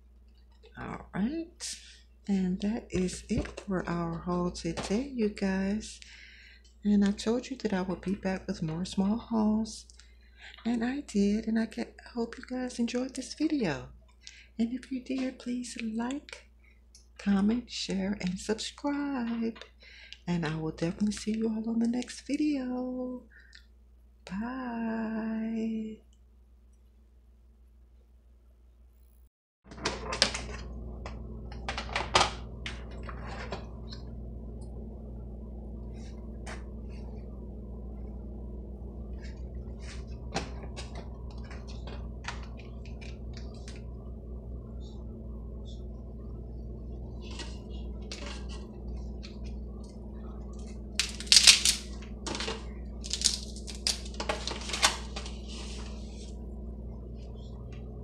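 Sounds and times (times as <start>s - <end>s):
steady low hum: 0.0s - 27.9s, 28.6s - 58.0s.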